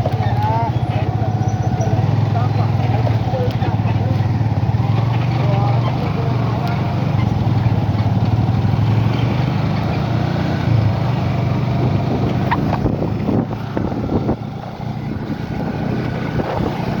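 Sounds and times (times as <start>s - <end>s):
motor vehicle engines humming: 0.0s - 17.0s.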